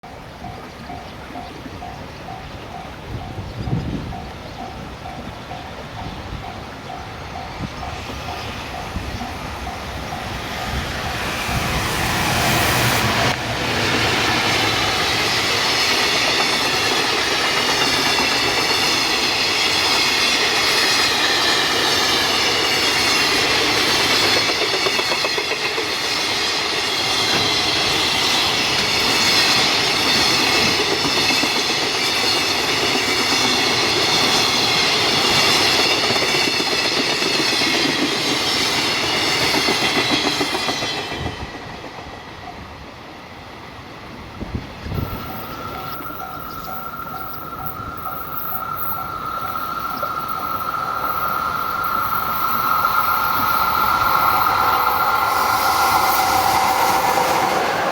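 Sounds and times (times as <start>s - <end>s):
level-crossing warning bell: 0.0s - 11.8s, 12.4s - 42.9s, 44.9s - 57.9s
wheel-on-rail noise: 0.0s - 42.8s, 44.0s - 57.9s
electric locomotive passing: 0.0s - 57.9s.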